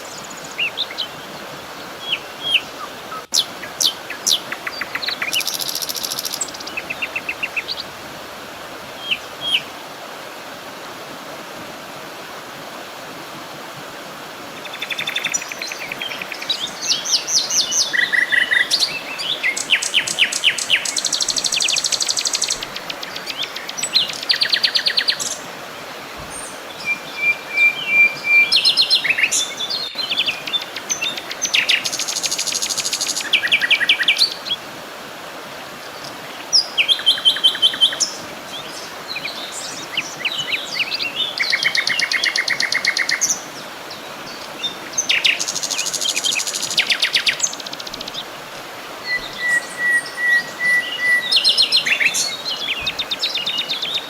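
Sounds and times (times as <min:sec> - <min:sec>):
songbirds singing: 0:00.0 - 0:08.1, 0:08.8 - 0:09.7, 0:14.6 - 0:34.6, 0:35.6 - 0:54.0
faint background hiss: 0:00.0 - 0:54.0.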